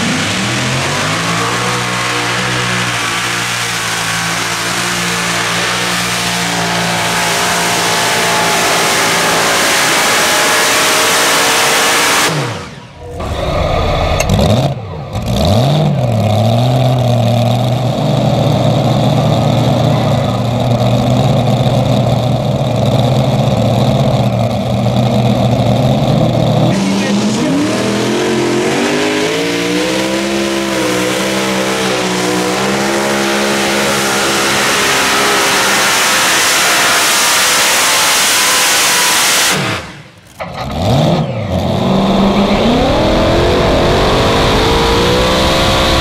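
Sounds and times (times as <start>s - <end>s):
engine revving and idling: 0.0s - 46.0s
tractor engine at full power: 0.0s - 46.0s.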